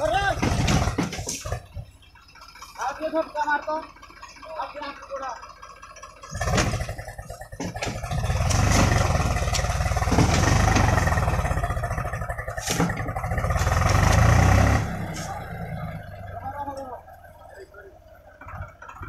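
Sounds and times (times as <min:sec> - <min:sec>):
tractor engine revving: 0:00.0 - 0:19.0.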